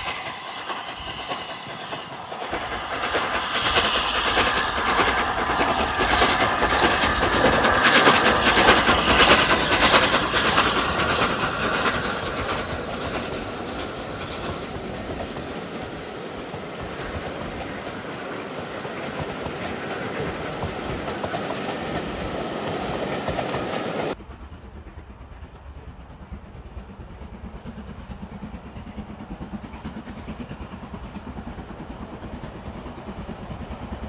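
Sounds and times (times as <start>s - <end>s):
train wheels clattering: 0.0s - 34.0s.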